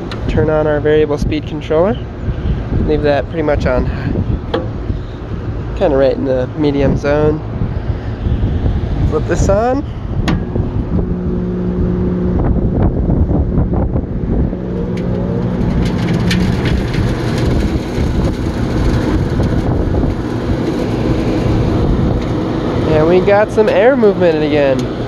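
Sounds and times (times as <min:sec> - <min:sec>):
exhaust fan motor hum: 0:00.0 - 0:25.0
rushing air: 0:02.0 - 0:25.0.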